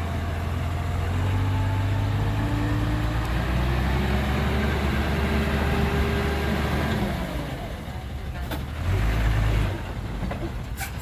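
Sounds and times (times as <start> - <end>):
heavy diesel engine under load: 0.0 - 11.0.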